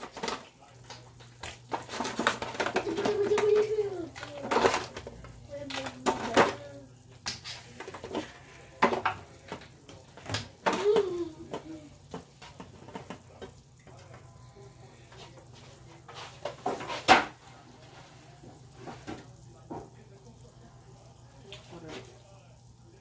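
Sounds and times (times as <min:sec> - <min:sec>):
cookware and utensils clinking: 0:00.0 - 0:22.4.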